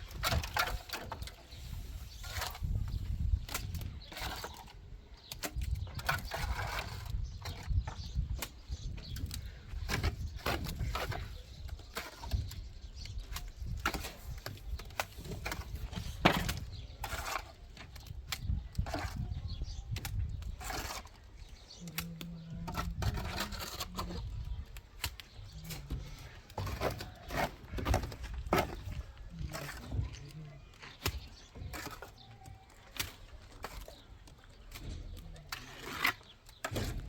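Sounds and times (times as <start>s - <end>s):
hand tools scraping cement: 0.0s - 37.0s.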